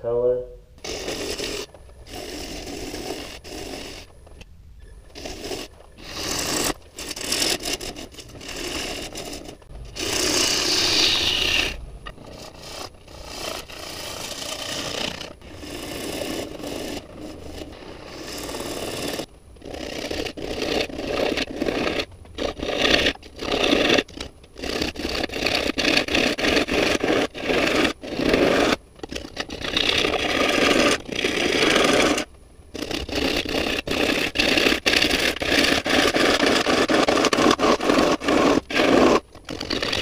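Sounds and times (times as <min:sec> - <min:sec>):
gouge cutting spinning wood: 0:00.8 - 0:04.4, 0:05.1 - 0:40.0.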